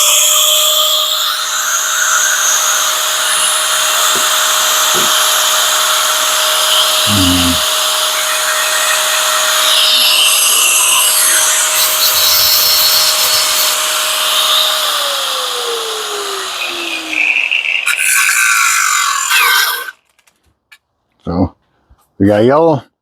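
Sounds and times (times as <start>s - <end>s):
power tool cutting metal: 0.0s - 20.0s.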